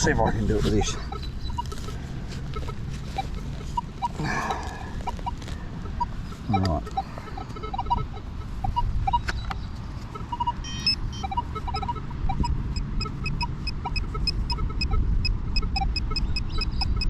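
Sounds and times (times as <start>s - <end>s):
metal detector beeping: 0.0s - 17.0s.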